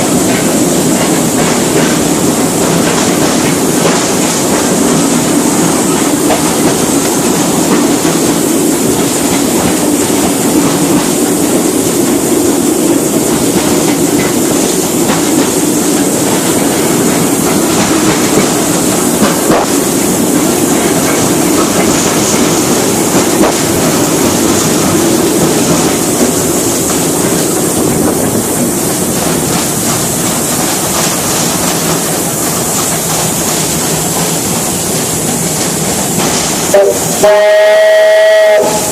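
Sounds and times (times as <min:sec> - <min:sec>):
wheels clacking over rail joints: 0:00.0 - 0:37.6
train rolling rumble: 0:00.0 - 0:38.9.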